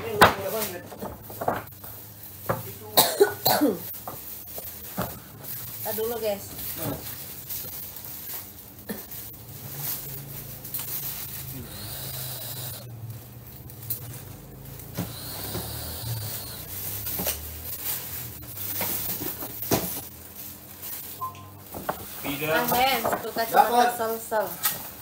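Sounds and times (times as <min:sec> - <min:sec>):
paper bag rustling: 0:00.0 - 0:03.0, 0:03.8 - 0:25.0.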